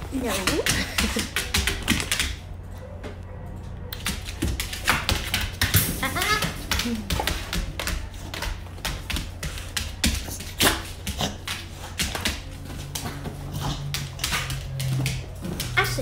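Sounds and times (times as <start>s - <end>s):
dog claws clicking on vinyl floor: 0.0s - 2.5s, 3.6s - 16.0s.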